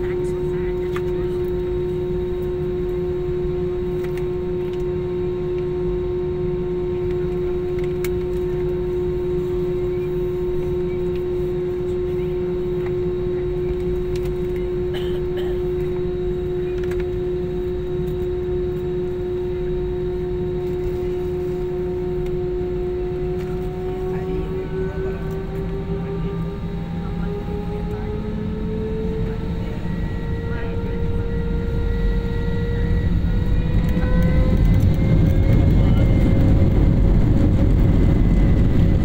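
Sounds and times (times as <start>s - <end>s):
jet airliner cabin drone: 0.0s - 39.0s.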